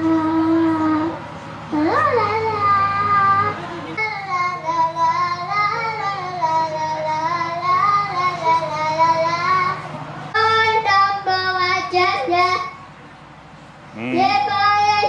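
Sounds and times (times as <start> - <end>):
child singing: 0.0 - 9.8, 10.4 - 12.8, 14.0 - 15.0
girl singing into a microphone: 0.0 - 12.8, 14.0 - 15.0.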